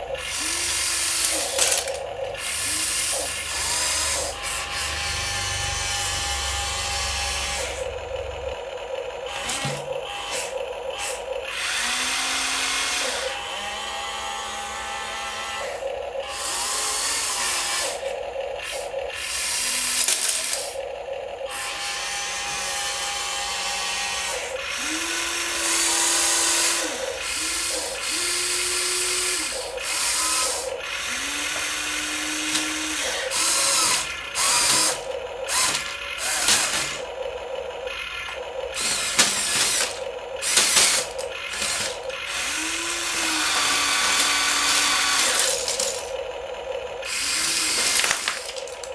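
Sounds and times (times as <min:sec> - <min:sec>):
steady motor whines: 0:00.0 - 0:48.9
toy vehicle motors whirring: 0:00.0 - 0:48.9.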